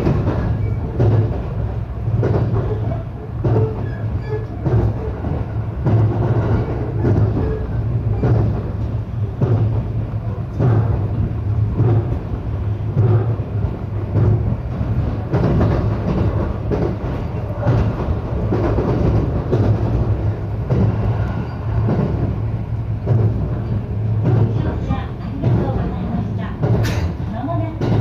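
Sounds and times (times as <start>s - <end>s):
train running hum: 0.0s - 28.0s
wheels clacking over rail joints: 0.0s - 28.0s.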